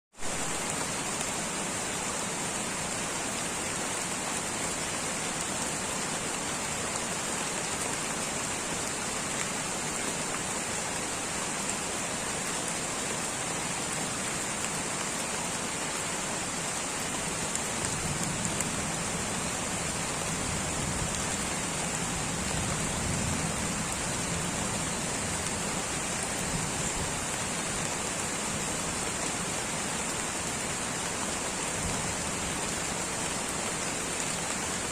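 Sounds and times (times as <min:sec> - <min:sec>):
light rain pattering: 0:00.2 - 0:34.9.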